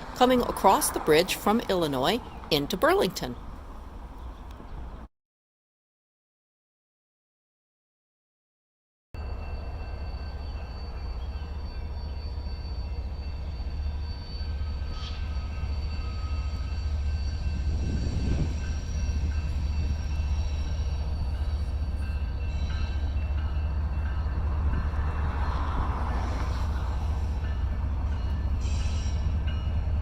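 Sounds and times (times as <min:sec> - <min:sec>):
train rolling across bridge: 0:00.0 - 0:05.1, 0:09.2 - 0:30.0.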